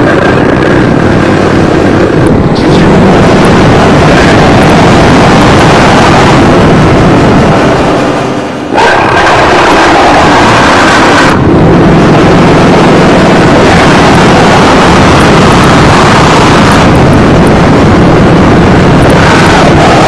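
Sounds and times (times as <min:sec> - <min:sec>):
heavily distorted harsh noise: 0:00.0 - 0:20.0.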